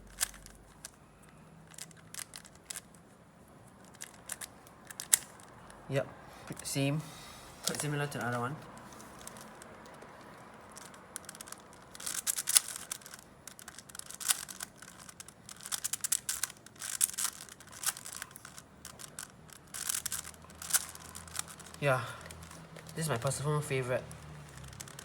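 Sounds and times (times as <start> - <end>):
puzzle cube clicking: 0.0 - 3.1, 3.7 - 5.8, 7.7 - 25.0.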